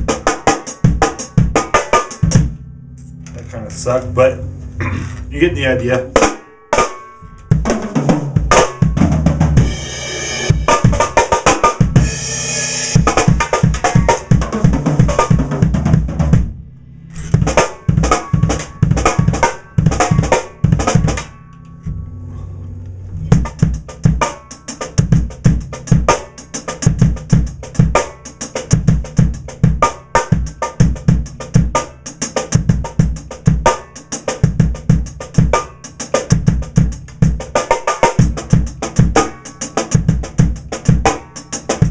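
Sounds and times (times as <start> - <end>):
high-tuned snare drum: 0.0 - 3.2, 4.6 - 16.6, 17.2 - 21.4, 23.3 - 41.9
drum kit playing: 0.0 - 21.7, 23.3 - 41.9.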